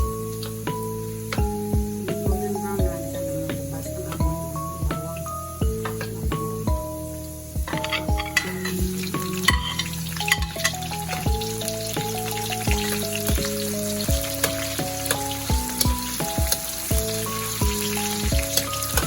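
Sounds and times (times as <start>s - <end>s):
lo-fi music with steady beat: 0.0s - 19.0s
food sizzling in a pan: 0.1s - 2.0s, 5.5s - 19.0s.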